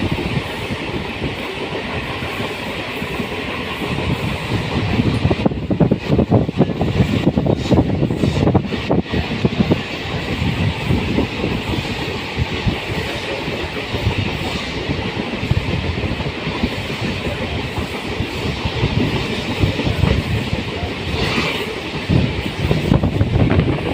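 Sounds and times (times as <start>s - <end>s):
train wheels rumbling on rails: 0.0s - 23.9s.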